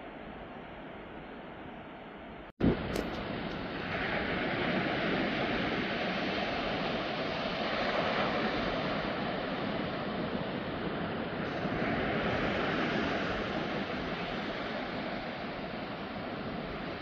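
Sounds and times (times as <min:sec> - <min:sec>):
ocean surf washing: 0:02.6 - 0:17.0.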